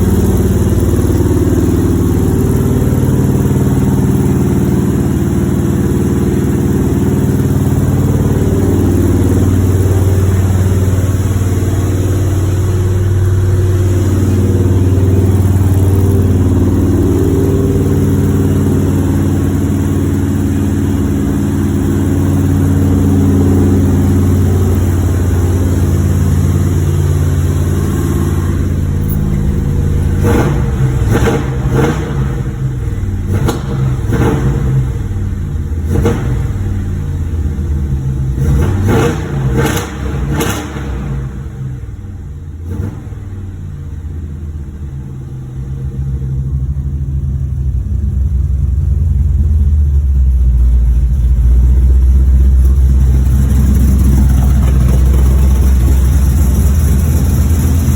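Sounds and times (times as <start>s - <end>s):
car engine running: 0.0s - 57.9s
engine sputtering: 0.0s - 57.9s.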